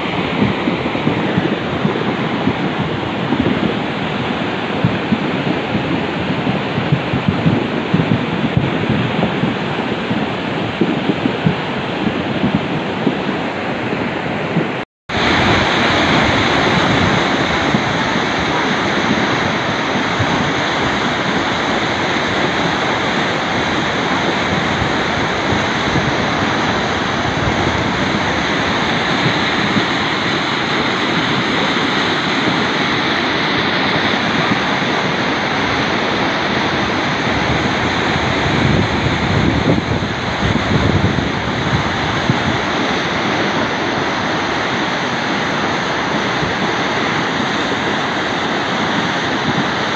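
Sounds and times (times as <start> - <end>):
river torrent rushing: 0.0 - 49.9.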